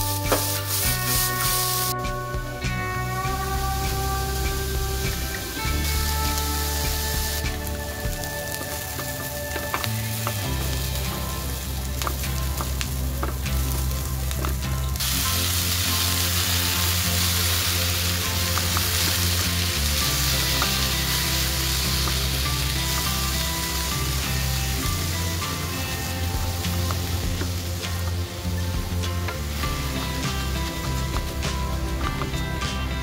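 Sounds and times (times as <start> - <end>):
onions sizzling in oil: 0.0 - 32.8.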